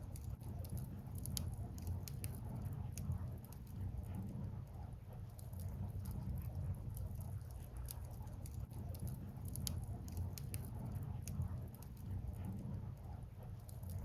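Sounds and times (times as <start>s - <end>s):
firewood crackling and popping: 0.0s - 4.2s, 5.3s - 14.0s
low fire rumble: 0.0s - 14.0s.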